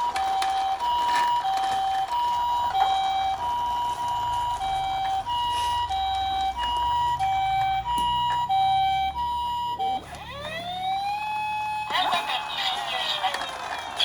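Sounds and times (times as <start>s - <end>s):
rising siren wail: 0.0s - 12.8s
toy hi-lo siren: 0.0s - 14.0s.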